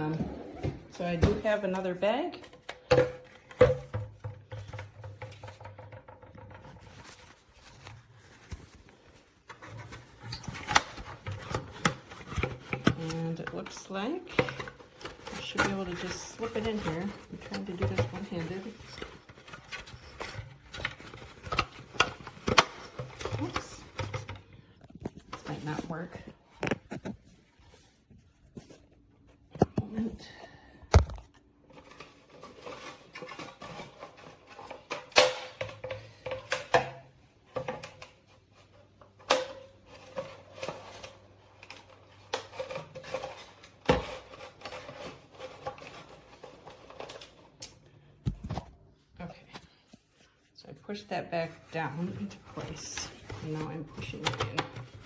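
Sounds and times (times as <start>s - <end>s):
rustling and scraping: 0.0s - 36.8s, 37.4s - 55.0s.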